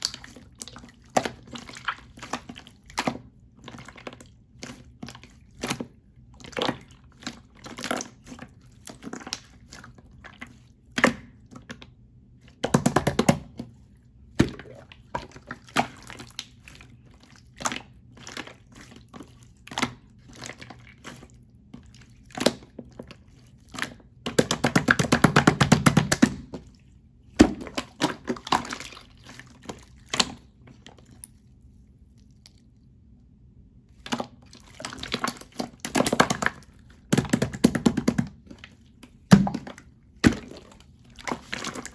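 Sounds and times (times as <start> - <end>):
crackling slime squelches: 0.0 - 41.9
slime squishing with wet clicks: 0.0 - 41.9.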